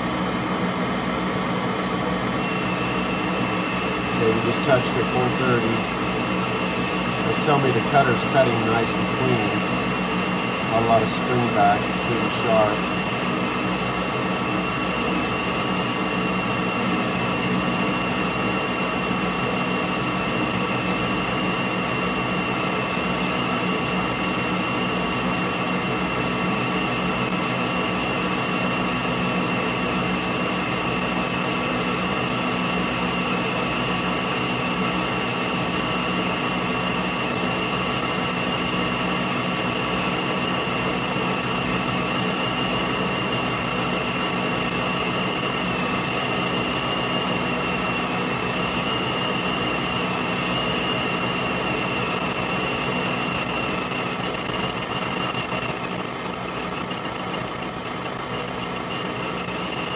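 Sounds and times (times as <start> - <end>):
metal lathe humming and whining: 0.1 - 59.9.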